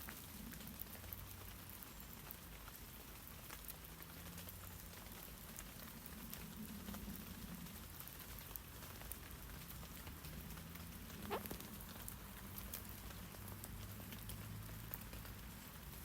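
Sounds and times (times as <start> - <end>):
light rain on leaves: 0.0 - 16.0.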